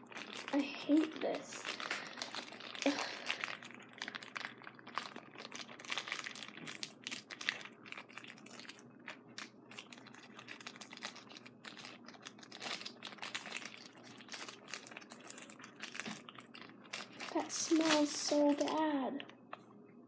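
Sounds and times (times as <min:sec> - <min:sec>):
plastic packaging crinkling: 0:00.0 - 0:19.6.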